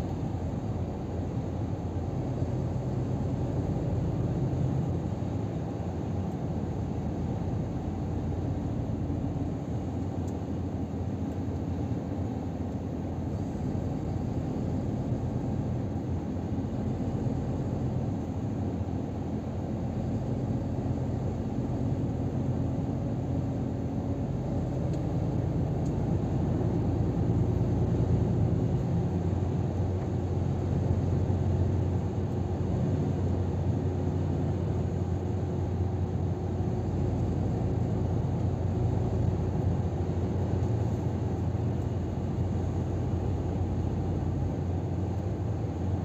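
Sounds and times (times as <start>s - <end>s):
truck diesel engine humming: 0.0s - 46.0s.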